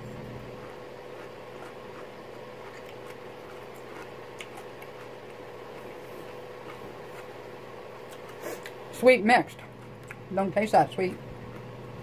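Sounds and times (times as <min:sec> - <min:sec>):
steady electrical hum: 0:00.0 - 0:12.0
person chewing pickles: 0:00.4 - 0:08.9, 0:09.5 - 0:10.3, 0:11.1 - 0:12.0.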